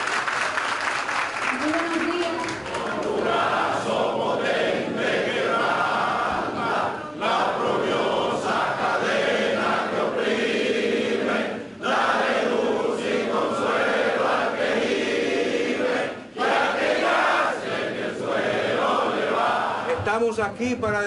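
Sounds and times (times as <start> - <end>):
crowd chanting in unison: 2.8 - 20.0.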